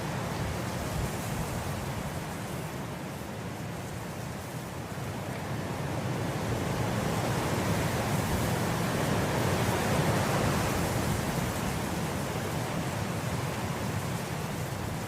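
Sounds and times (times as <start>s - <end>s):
wind blowing through grass: 0.0s - 15.0s.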